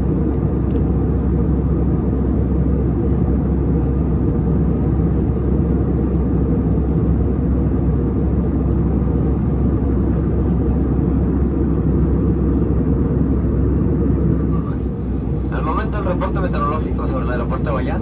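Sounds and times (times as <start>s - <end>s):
airliner cabin engine and airflow roar: 0.0s - 18.0s.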